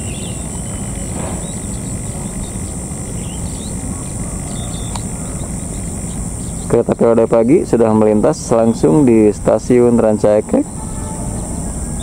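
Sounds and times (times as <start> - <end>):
bird chirps: 0.0 - 9.4, 10.2 - 12.0
high-pitched insect buzzing: 0.0 - 12.0.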